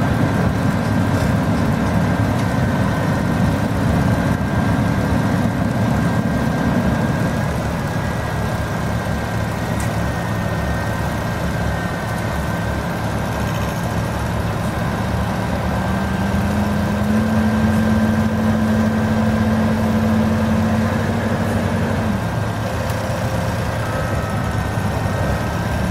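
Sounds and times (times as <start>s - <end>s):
heavy vehicle engine idling: 0.0s - 25.9s.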